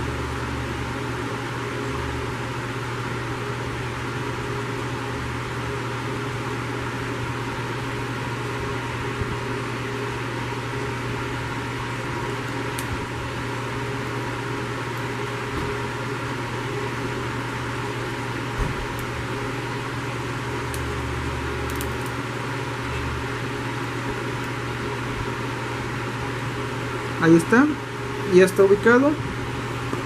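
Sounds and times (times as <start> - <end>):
hot air station fan hiss: 0.0 - 30.0.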